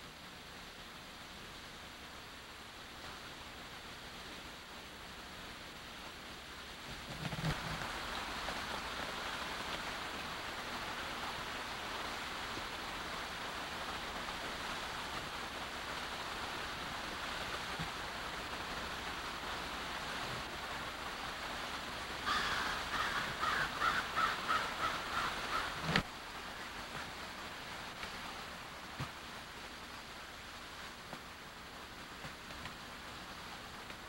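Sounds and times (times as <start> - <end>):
creek water rushing over rocks: 0.0 - 34.0.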